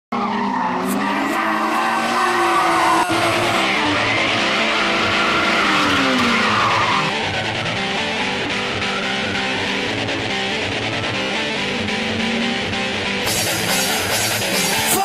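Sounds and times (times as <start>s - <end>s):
car engine revving hard: 0.1s - 14.8s
tyres skidding: 0.1s - 15.0s.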